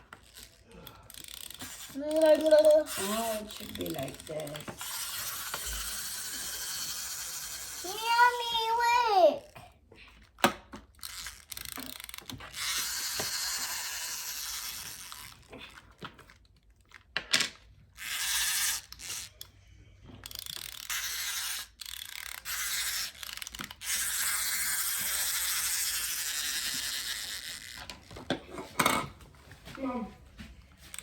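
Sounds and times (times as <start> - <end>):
wind-up toy gears ratcheting: 0.0 - 9.6, 10.3 - 17.1, 17.9 - 19.6, 20.2 - 28.2.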